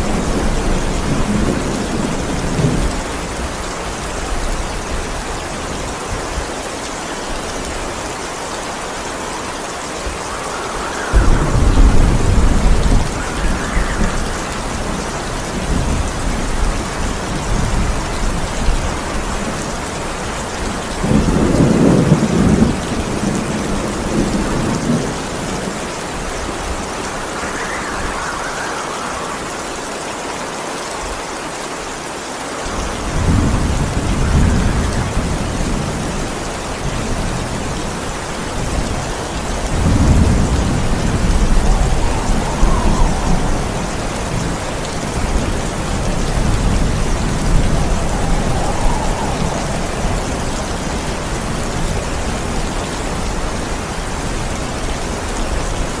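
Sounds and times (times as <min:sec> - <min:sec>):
heavy rain: 0:00.0 - 0:56.0
rolling thunder: 0:08.9 - 0:30.6, 0:32.7 - 0:56.0.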